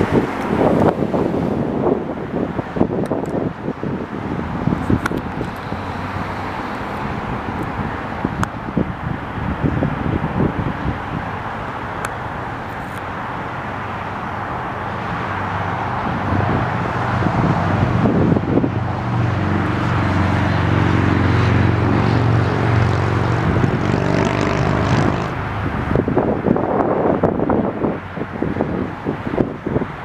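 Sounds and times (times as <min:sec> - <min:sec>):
jet airliner passing overhead: 0:00.0 - 0:26.4
wind buffeting microphone: 0:00.0 - 0:30.0.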